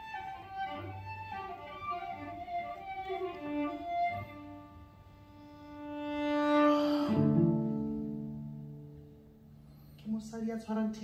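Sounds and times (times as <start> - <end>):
bowed violin: 0.0 - 9.0
bowed cello notes: 0.0 - 9.4.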